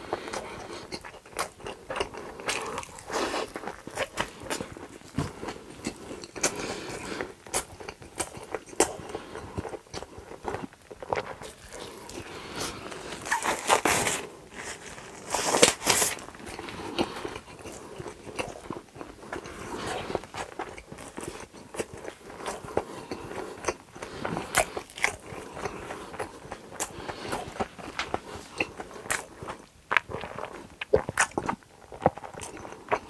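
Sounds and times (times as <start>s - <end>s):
chewing with crackles: 0.0s - 33.0s.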